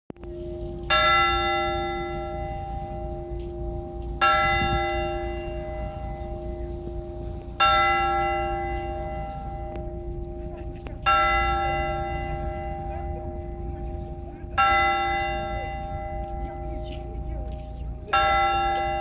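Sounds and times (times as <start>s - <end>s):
church bell struck: 0.1s - 19.0s
steady low bell tone: 0.1s - 19.0s.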